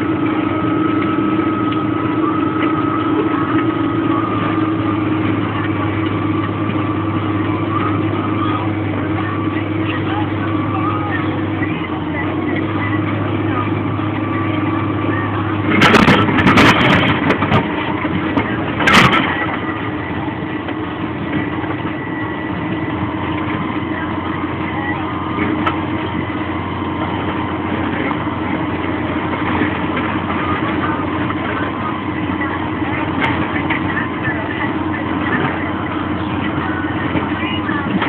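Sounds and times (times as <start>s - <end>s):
tractor engine under load: 0.0s - 38.0s.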